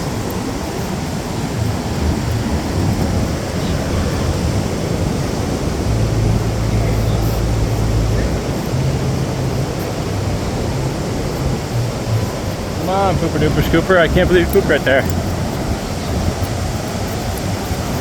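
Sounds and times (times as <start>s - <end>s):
surf breaking on beach: 0.0s - 18.0s
wind on microphone: 0.0s - 18.0s
low hum: 1.3s - 18.0s.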